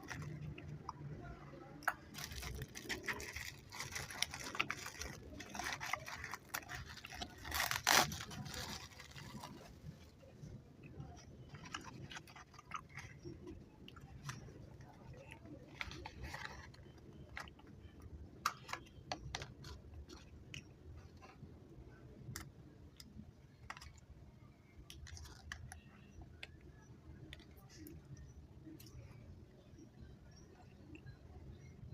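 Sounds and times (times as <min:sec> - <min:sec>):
chewing candy: 0:00.0 - 0:21.5, 0:22.2 - 0:29.2.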